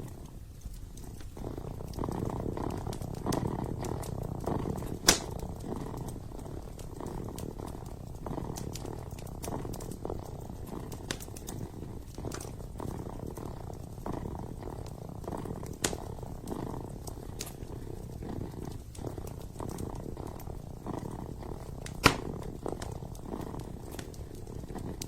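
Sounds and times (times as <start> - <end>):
kitten purring: 0.0 - 25.0
wood fire popping and crackling: 0.0 - 25.0.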